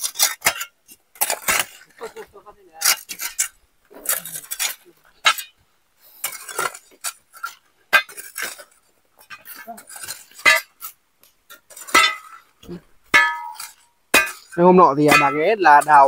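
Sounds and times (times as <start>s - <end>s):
metal tools striking rock: 0.0s - 2.1s, 2.8s - 5.6s, 6.2s - 16.0s.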